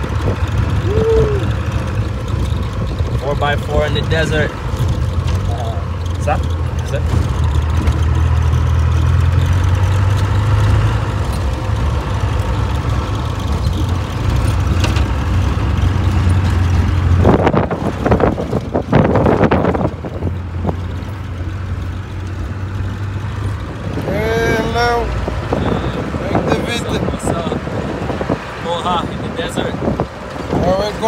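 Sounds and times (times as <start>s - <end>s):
low engine drone: 0.0s - 28.4s
road noise: 0.0s - 31.0s.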